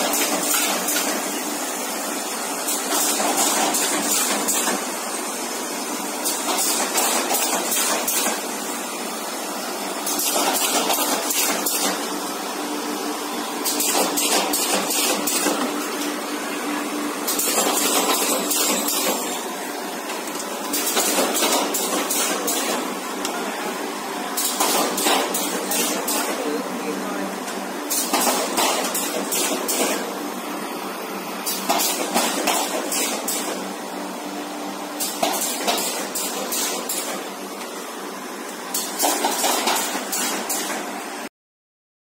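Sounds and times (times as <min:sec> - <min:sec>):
machine clattering and hissing: 0:00.0 - 0:12.6, 0:13.5 - 0:23.6, 0:24.2 - 0:26.6, 0:27.4 - 0:30.2, 0:31.4 - 0:33.8, 0:35.0 - 0:37.8, 0:38.5 - 0:41.1.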